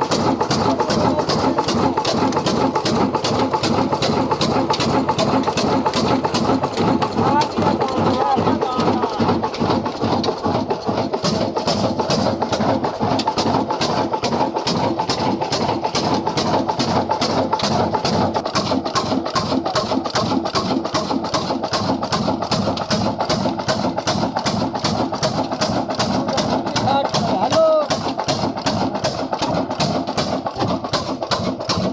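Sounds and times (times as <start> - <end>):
slow diesel engine running: 0.0 - 31.9.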